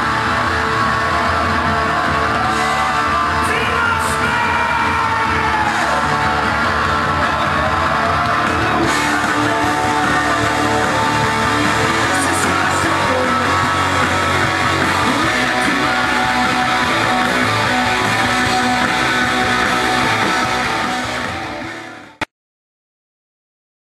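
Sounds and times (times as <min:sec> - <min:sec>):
guitar background music: 0:00.0 - 0:22.2.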